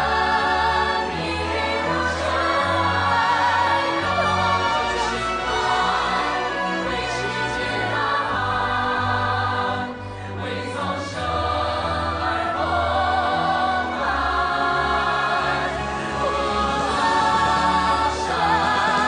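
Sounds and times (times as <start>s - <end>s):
choir singing: 0.0s - 19.0s
sustained instrumental accompaniment: 0.0s - 19.0s.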